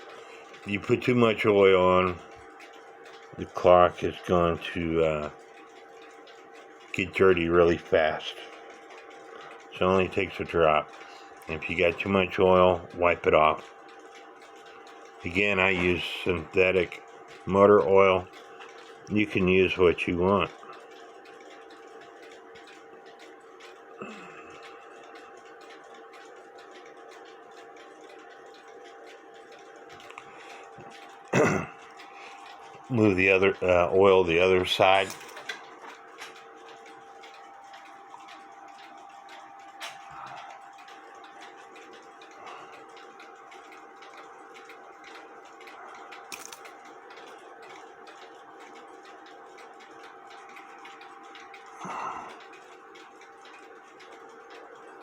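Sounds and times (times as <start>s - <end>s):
clock ticking: 0.0s - 55.0s
faint steady hum: 0.0s - 55.0s.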